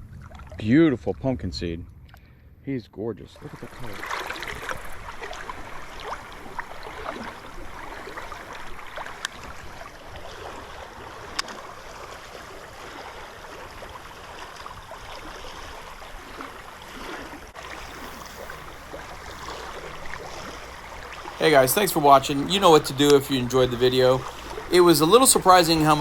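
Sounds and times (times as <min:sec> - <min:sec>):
river current rushing: 0:03.5 - 0:26.0.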